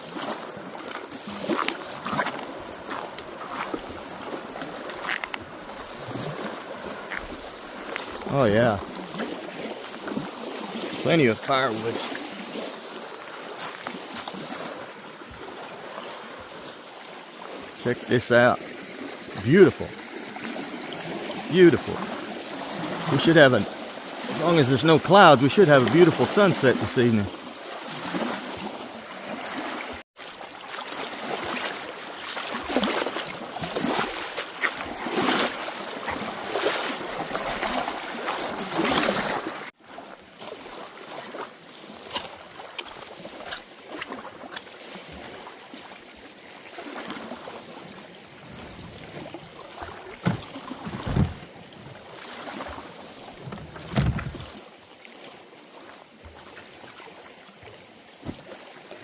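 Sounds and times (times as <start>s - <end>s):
lake water lapping and splashing: 0.0s - 59.0s.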